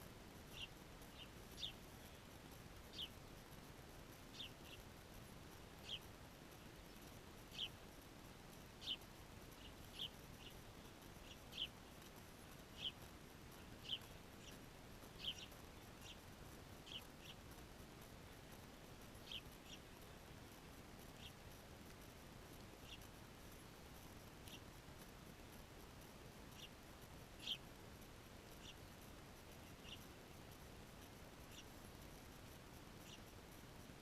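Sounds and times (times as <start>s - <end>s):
faint background hiss: 0.0s - 34.0s
songbirds chirping: 0.0s - 34.0s.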